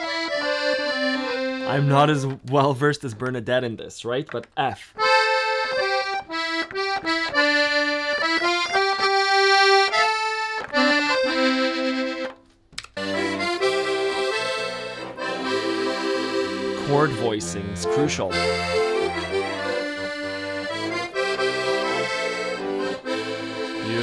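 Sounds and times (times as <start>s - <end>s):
accordion playing melody: 0.0s - 2.8s, 5.0s - 24.0s.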